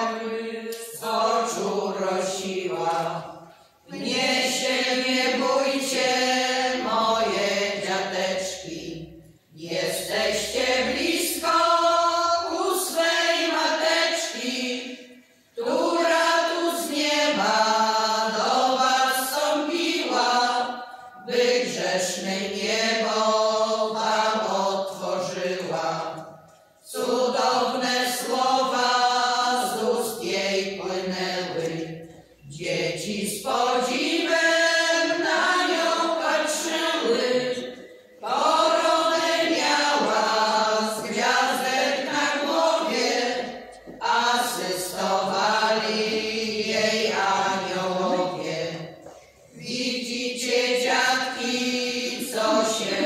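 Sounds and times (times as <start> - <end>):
women singing a cappella: 0.0 - 53.0.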